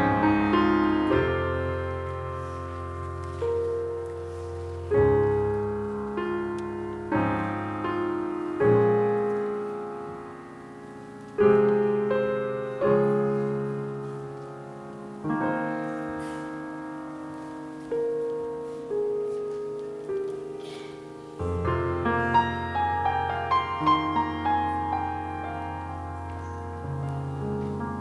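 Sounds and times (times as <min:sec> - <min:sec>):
slow quiet piano chords: 0:00.0 - 0:28.0.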